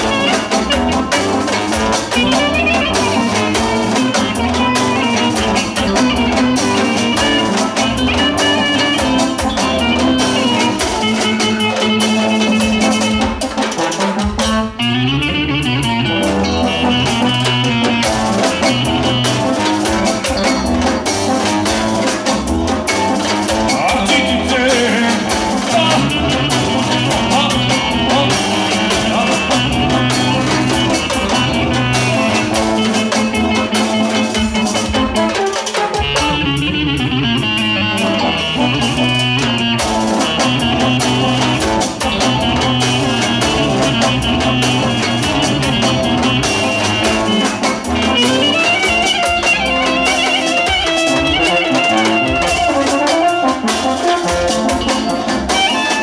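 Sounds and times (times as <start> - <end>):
clarinet melody: 0.0 - 56.0
live band playing: 0.0 - 56.0.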